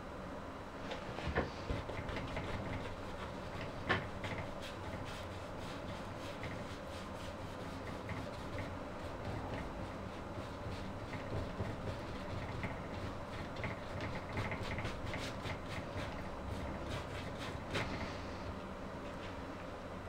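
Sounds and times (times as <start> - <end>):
room hum: 0.0 - 20.0
paintbrush dabbing on canvas: 1.5 - 18.3.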